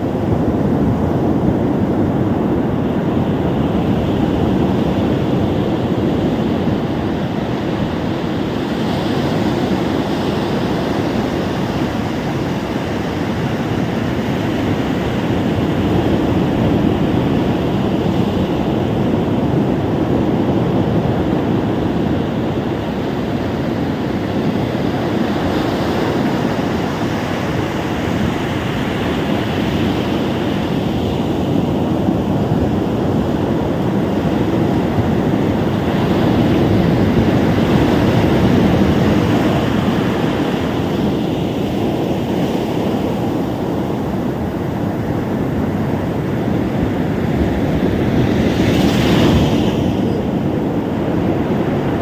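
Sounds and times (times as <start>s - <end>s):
ocean waves washing onto beach: 0.0s - 52.0s.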